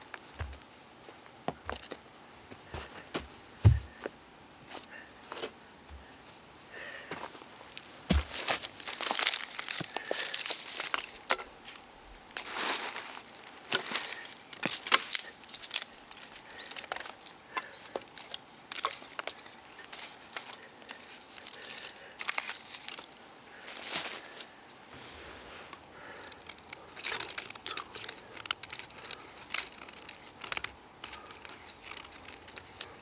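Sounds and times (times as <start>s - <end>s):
dry leaves and twigs crackling: 2.7s - 33.0s.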